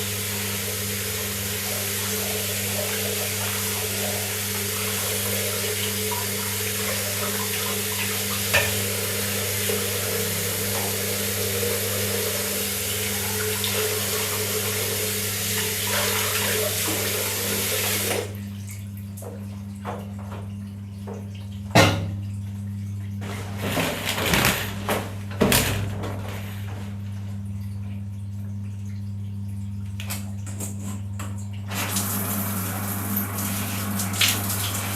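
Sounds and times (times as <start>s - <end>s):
tap water running into sink: 0.0s - 34.9s.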